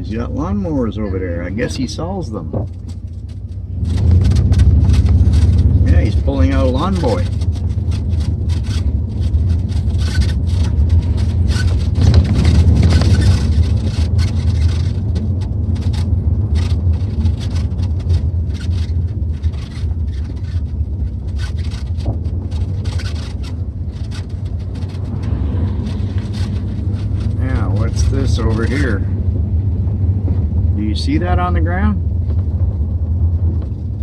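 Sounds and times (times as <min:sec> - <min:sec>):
engine and road rumble: 0:00.0 - 0:34.0
rattles and scrapes in truck cab: 0:00.0 - 0:34.0.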